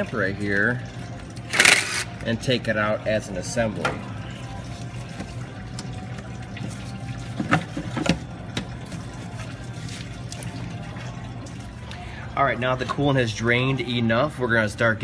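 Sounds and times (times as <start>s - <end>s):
coolant draining: 0.0s - 15.0s.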